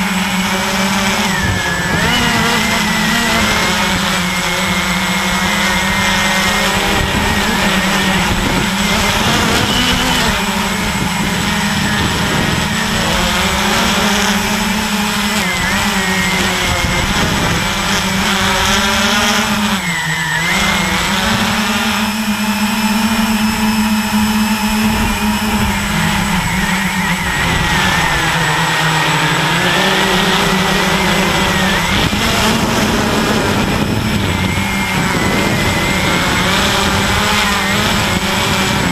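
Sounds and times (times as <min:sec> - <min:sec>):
drone propellers buzzing: 0:00.0 - 0:38.9
steady rushing noise: 0:00.0 - 0:38.9.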